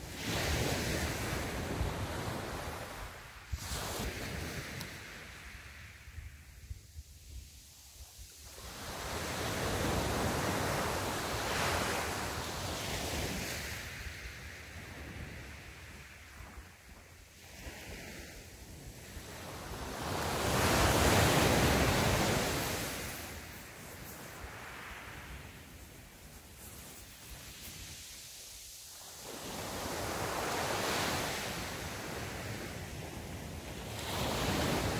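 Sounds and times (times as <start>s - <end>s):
small waves breaking on beach: 0.0s - 34.9s.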